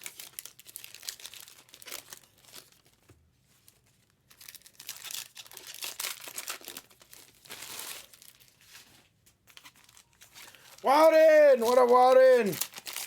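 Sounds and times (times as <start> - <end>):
wrappers crinkling and tearing: 0.0 - 13.0.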